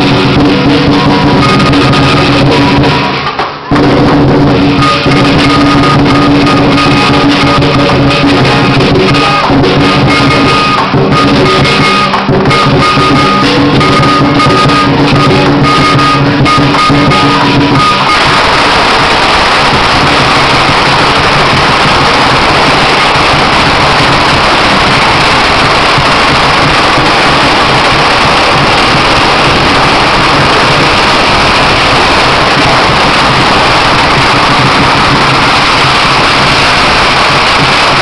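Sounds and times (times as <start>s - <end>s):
ringing gong: 0.0s - 36.6s
clashing cymbals: 0.0s - 38.0s
firecrackers going off: 0.0s - 38.0s
pounding drum: 0.0s - 38.0s.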